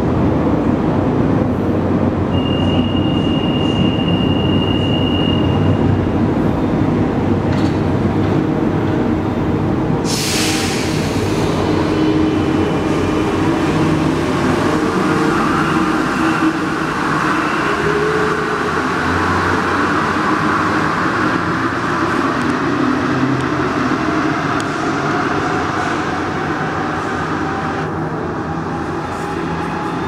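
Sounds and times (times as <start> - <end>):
metro train motors humming: 0.0 - 30.0
train running rumble: 5.4 - 30.0.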